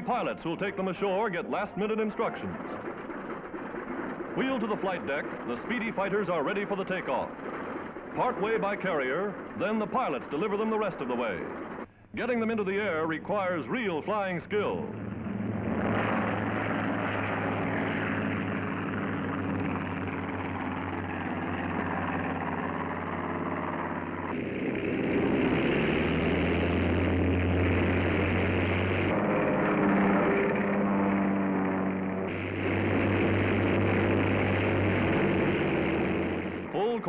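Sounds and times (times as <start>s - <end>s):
propeller aircraft engine: 0.0s - 37.0s.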